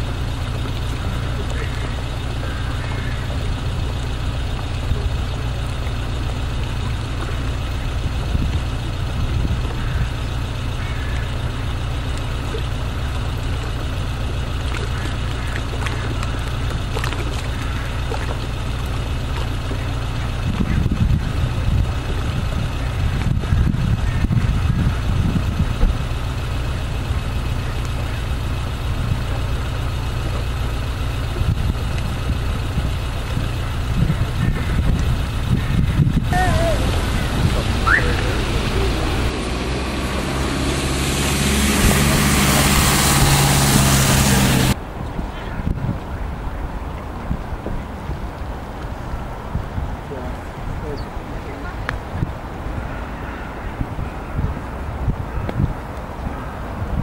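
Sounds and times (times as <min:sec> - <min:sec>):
low rumble of city traffic: 0:00.0 - 0:57.0.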